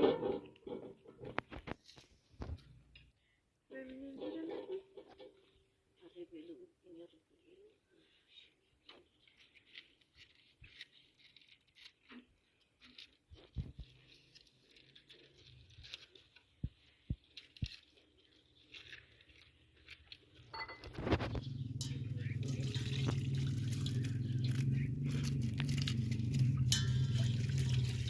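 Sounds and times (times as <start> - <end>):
faint scrapes and rustles: 0.0 - 28.0.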